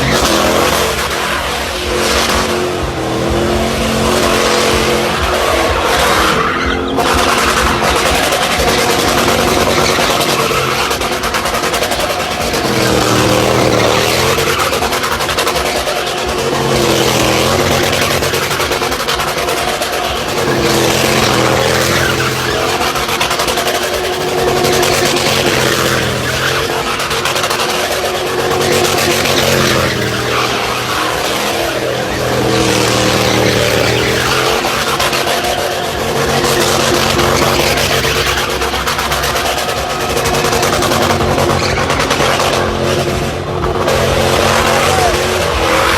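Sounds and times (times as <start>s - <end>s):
car engine revving hard: 0.0s - 45.9s
tyres squealing and skidding: 0.0s - 45.9s.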